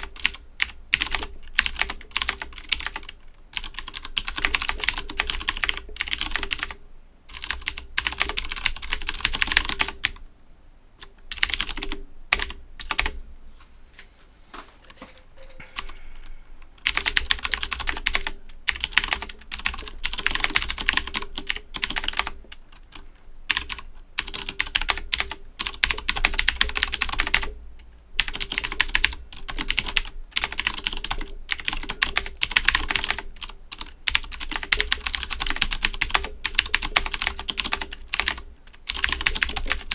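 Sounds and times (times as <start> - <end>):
clicky mechanical keyboard typing: 0.0 - 10.2, 11.0 - 13.2, 16.8 - 27.6, 28.2 - 39.9.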